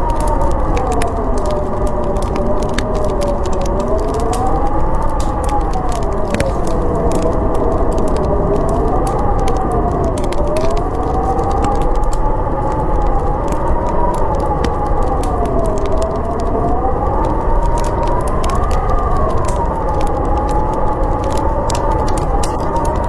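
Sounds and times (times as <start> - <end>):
howling blizzard wind: 0.0 - 23.0
wood fire crackling: 0.0 - 23.0.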